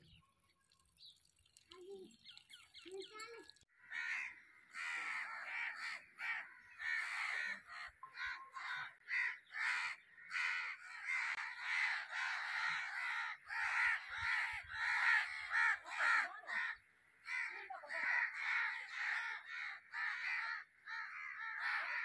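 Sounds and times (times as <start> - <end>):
crows cawing: 3.7 - 22.0.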